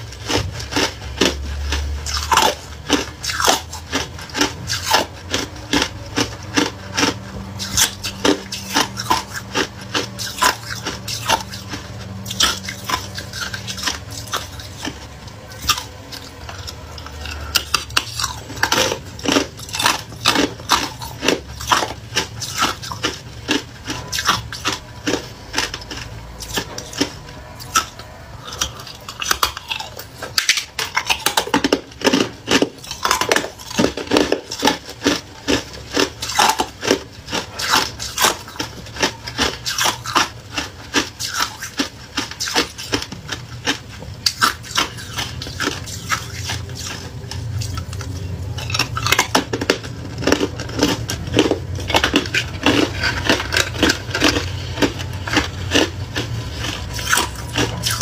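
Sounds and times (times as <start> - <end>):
ice crunching between teeth: 0.0 - 58.0.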